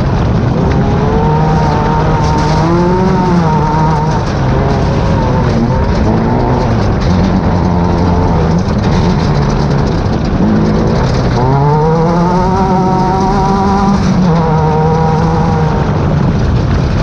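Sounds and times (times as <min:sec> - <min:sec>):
race buggy engine accelerating: 0:00.0 - 0:17.0.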